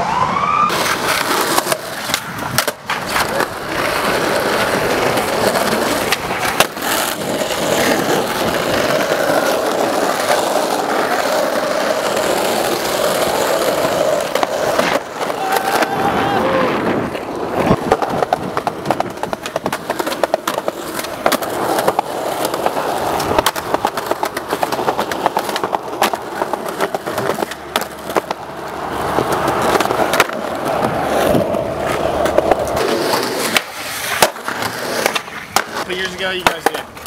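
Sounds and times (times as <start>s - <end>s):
skateboard wheels rolling on pavement: 0.0s - 37.0s
skateboard clacking on ground: 0.7s - 37.0s.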